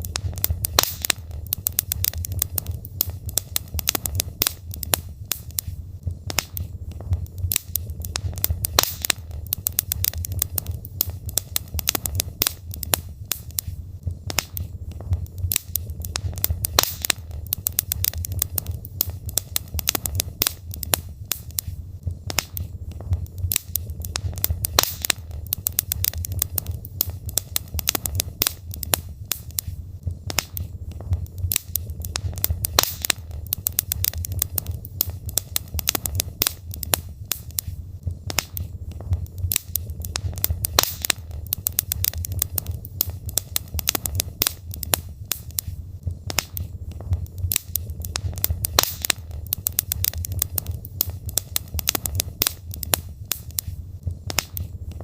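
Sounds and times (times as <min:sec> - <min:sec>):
logs crackling and popping: 0:00.0 - 0:55.0
low fire rumble: 0:00.0 - 0:55.0.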